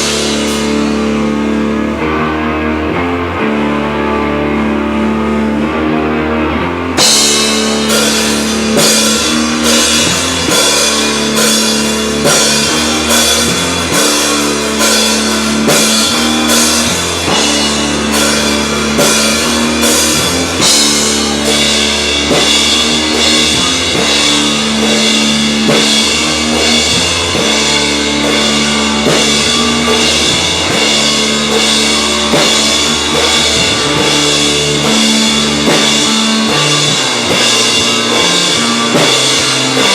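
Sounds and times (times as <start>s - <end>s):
drum kit with cymbals: 0.0s - 5.7s, 6.9s - 39.9s
electric guitar and bass: 0.0s - 39.9s.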